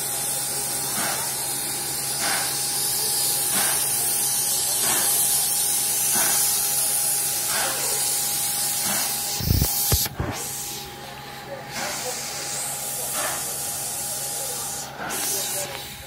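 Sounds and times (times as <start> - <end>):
steam hissing: 0.0 - 16.0.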